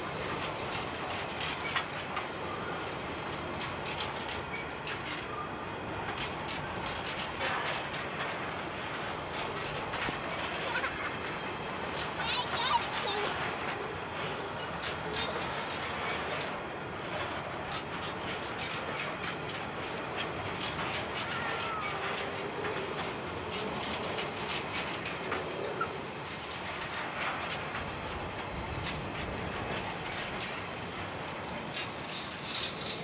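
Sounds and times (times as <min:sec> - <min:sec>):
train wagons rumbling on rails: 0:00.0 - 0:33.0
wheels clicking and clacking: 0:00.0 - 0:33.0.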